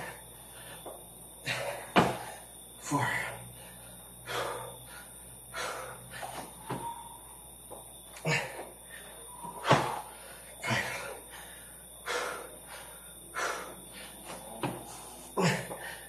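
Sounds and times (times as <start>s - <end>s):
man breathing hard: 0.0s - 7.2s, 8.2s - 16.0s.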